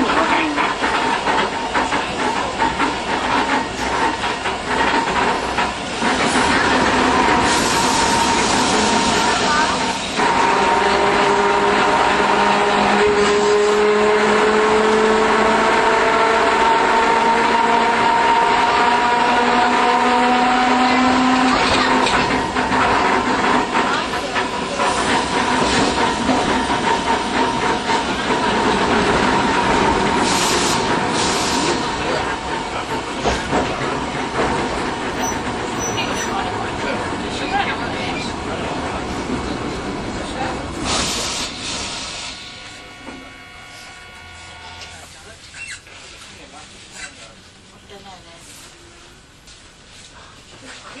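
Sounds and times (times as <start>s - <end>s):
tram motor whine: 0.0s - 35.8s, 38.2s - 45.4s
tram wheels rumbling on rail: 0.0s - 51.0s.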